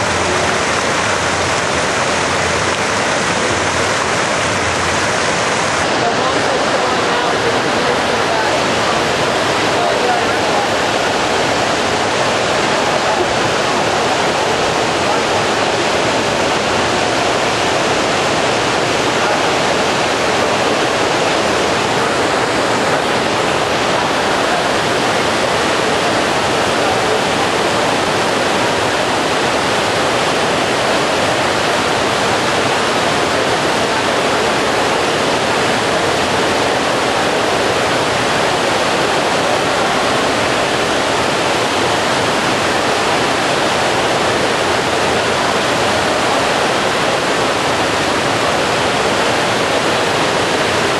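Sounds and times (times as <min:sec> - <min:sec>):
fountain water splashing: 0:00.0 - 0:50.9.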